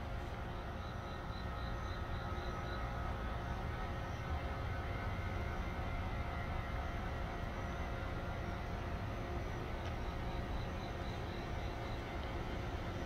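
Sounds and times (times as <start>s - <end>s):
faint steady hum: 0.0s - 13.0s
outdoor background rumble: 0.0s - 13.0s.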